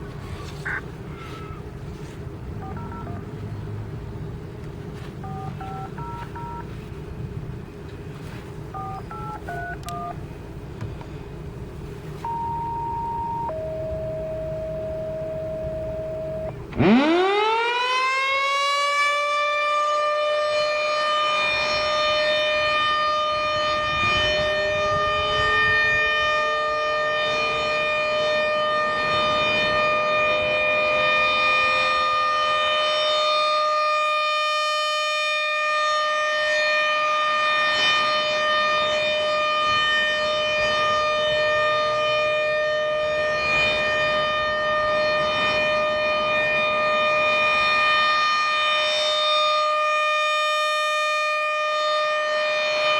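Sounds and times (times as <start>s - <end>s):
outdoor warning siren wailing: 0.0s - 3.2s, 5.2s - 6.8s, 12.2s - 52.9s.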